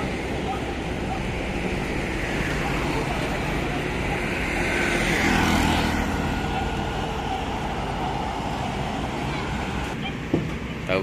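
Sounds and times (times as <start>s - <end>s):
vehicle passing close by: 0.0s - 10.0s
steady road rumble: 0.0s - 11.0s.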